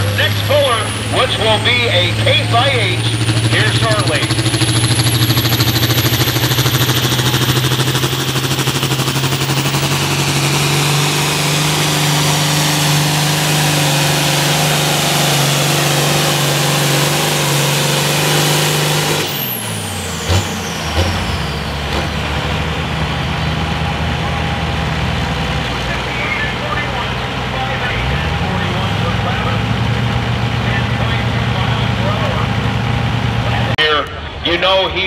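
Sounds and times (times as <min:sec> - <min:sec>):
high engine whine: 0:00.0 - 0:35.0
tractor diesel engine under load: 0:00.0 - 0:35.0.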